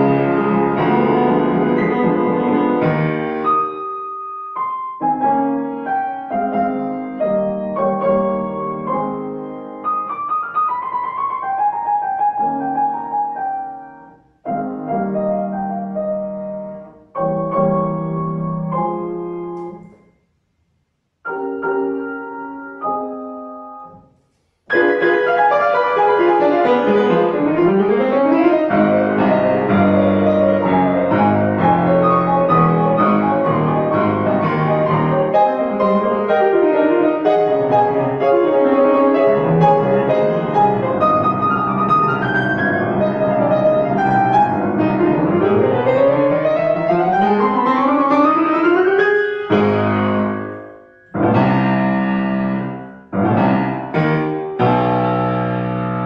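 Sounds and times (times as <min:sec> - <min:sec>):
classical grand piano piece: 0:00.0 - 0:56.0.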